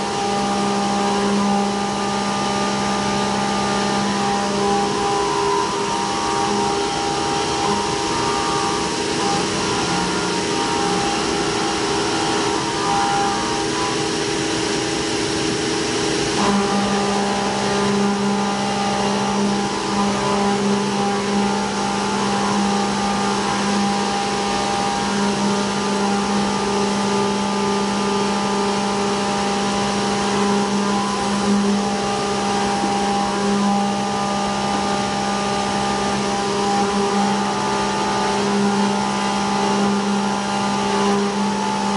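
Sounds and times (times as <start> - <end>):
milling machine cutting whine: 0.0 - 41.9.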